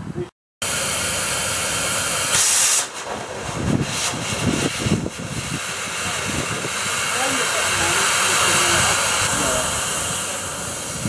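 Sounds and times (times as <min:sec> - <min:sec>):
low steam puffs: 0:00.6 - 0:11.0
steam locomotive hissing: 0:00.6 - 0:11.0.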